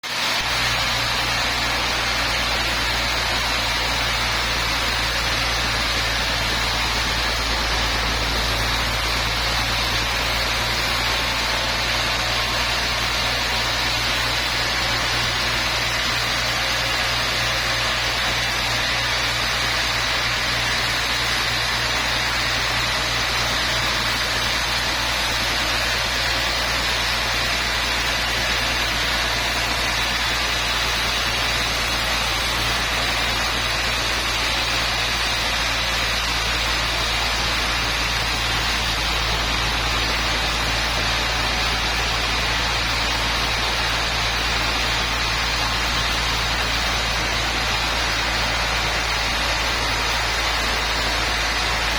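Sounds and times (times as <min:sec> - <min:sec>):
sawmill machinery hum: 0:00.0 - 0:51.9.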